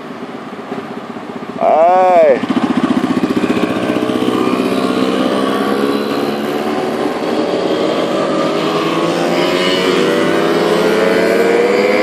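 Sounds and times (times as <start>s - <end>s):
moped engines passing: 0.0s - 12.0s.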